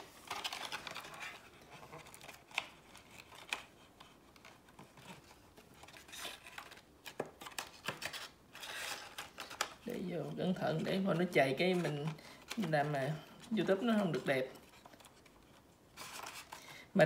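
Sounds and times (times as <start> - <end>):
packaging rustling: 0.0 - 16.9.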